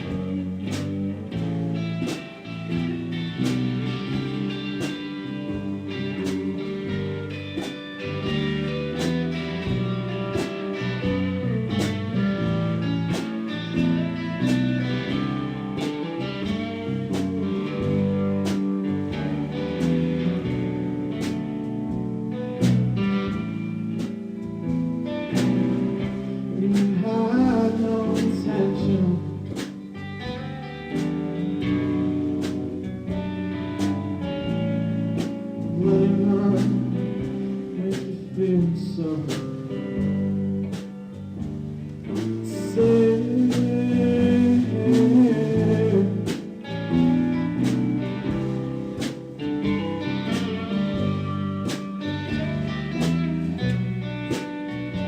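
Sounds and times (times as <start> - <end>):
guitar strumming slowly: 0.0 - 55.0.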